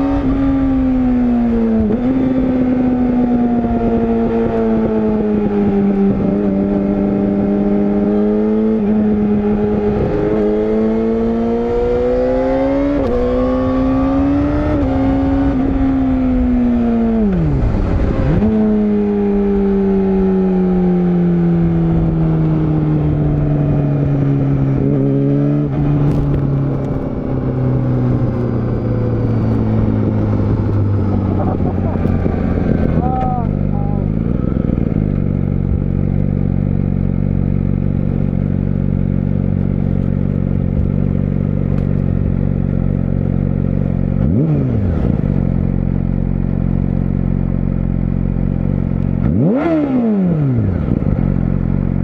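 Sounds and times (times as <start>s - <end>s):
motorcycle engine running: 0.0s - 52.0s
wind and road noise: 0.0s - 52.0s.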